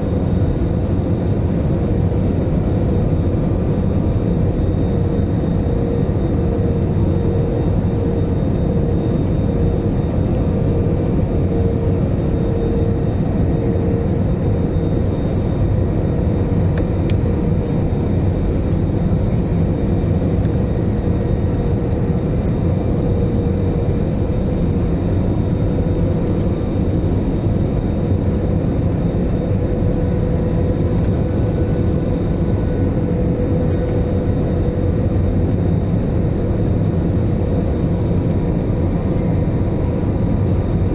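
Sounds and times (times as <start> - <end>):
airliner engine drone: 0.0 - 40.9.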